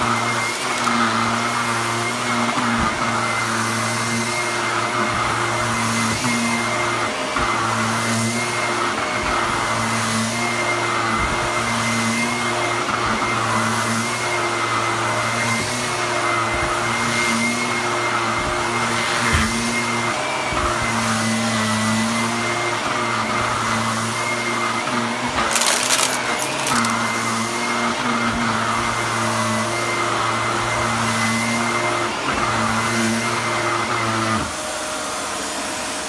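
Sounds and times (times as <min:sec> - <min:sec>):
vacuum cleaner running over rug: 0:00.0 - 0:36.0.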